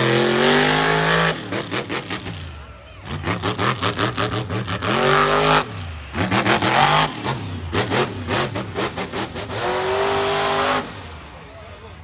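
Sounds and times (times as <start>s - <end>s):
truck engine revving hard: 0.0s - 11.2s.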